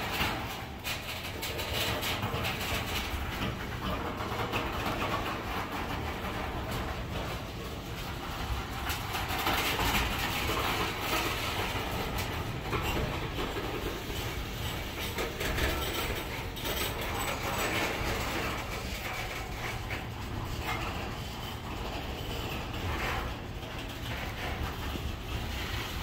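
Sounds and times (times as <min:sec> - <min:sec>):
freight train wheels rumbling on rails: 0:00.0 - 0:26.0
train clicks and clanks: 0:00.0 - 0:26.0.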